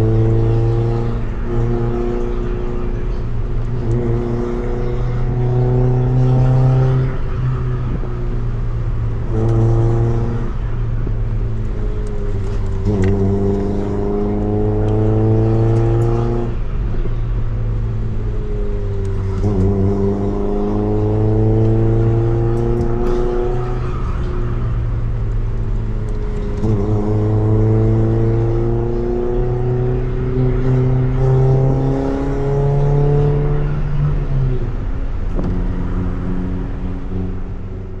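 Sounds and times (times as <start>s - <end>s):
car engine revving through gears: 0.0s - 38.0s.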